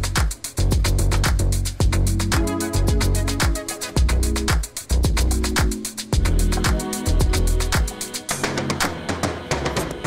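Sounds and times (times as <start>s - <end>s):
music with sliding bass: 0.0s - 10.0s.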